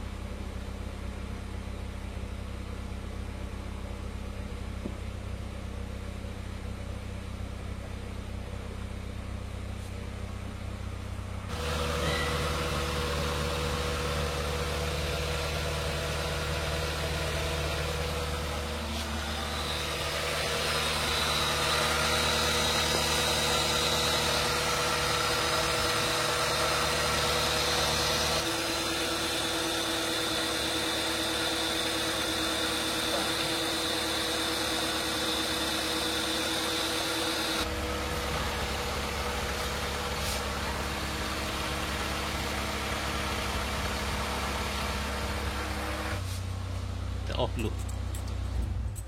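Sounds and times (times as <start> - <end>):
car engine idling: 0.0 - 49.0
power steering whine: 0.0 - 49.0.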